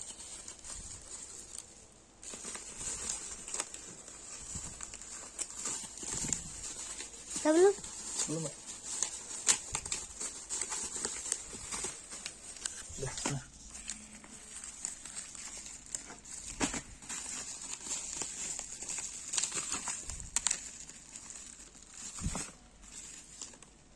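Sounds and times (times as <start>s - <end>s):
packaging rustling and crinkling: 0.0s - 23.9s.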